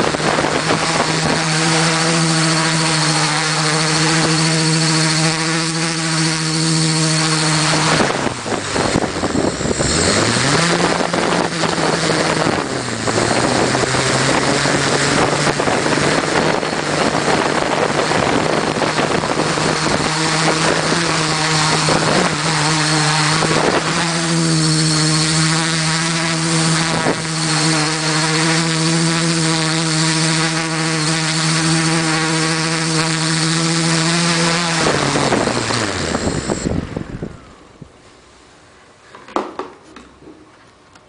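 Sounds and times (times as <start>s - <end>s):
motors winding down: 0.0s - 37.8s
drone motors humming: 0.0s - 37.9s.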